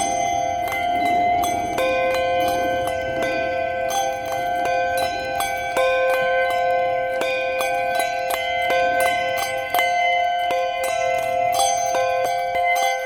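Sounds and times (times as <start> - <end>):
handbells ringing: 0.0 - 13.0.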